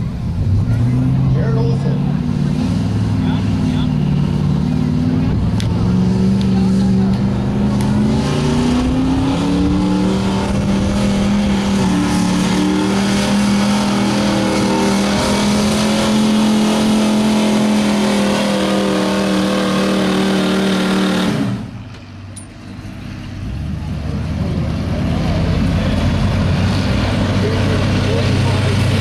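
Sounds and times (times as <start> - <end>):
truck engine at high revs: 0.0 - 29.0.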